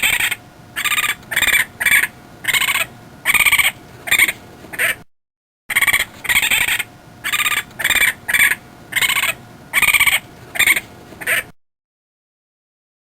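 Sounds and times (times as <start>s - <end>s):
short buzzy animal calls: 0.0s - 5.1s, 5.7s - 11.6s.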